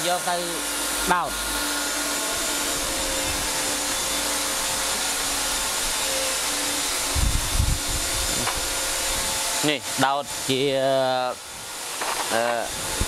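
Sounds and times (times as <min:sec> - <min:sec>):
drill press motor whirring: 0:00.0 - 0:13.0.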